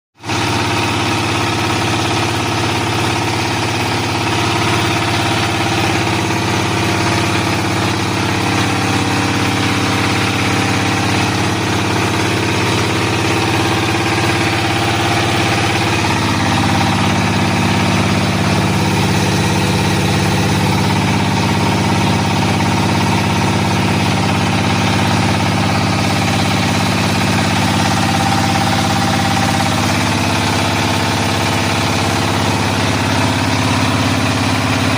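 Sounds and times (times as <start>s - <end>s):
machine humming: 0.3s - 34.9s.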